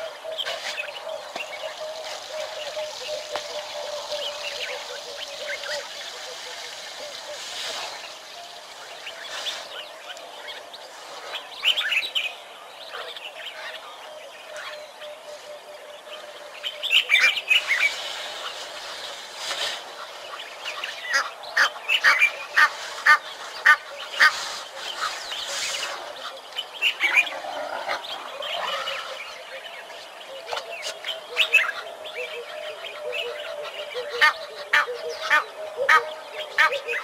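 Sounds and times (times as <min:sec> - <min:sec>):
wild birds calling: 0:00.0 - 0:37.0.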